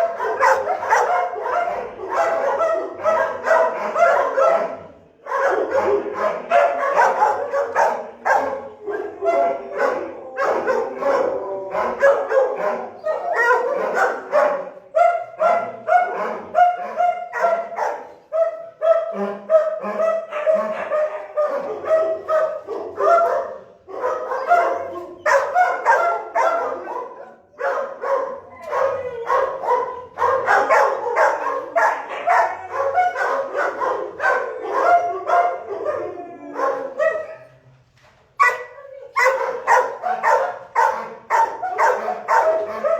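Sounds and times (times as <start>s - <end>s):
many dogs barking: 0.0s - 37.6s, 38.4s - 42.9s.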